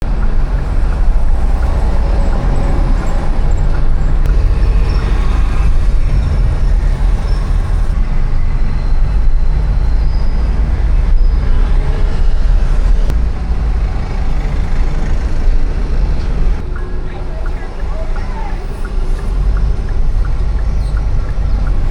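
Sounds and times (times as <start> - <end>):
passing vehicles rumbling: 0.0 - 21.9.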